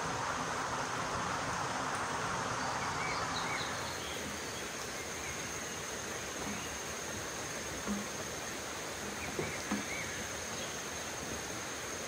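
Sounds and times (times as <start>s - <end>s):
stream water rushing over rocks: 0.0s - 12.0s
high insect drone: 0.2s - 12.0s.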